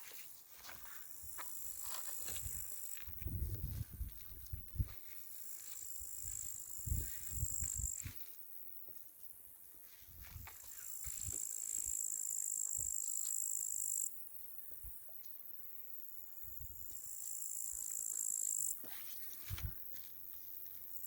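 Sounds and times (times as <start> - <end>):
crickets trilling: 0.6 - 8.3, 10.5 - 20.0.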